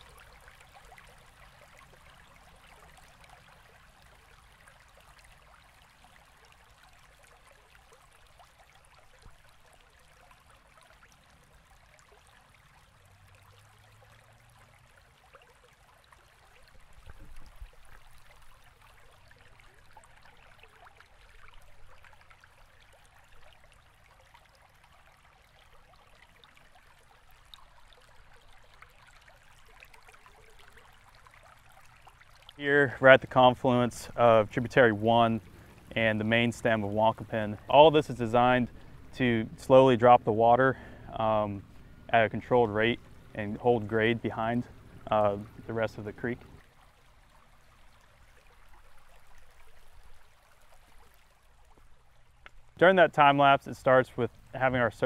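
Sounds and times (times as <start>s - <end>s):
creek water trickling: 0.0s - 55.0s.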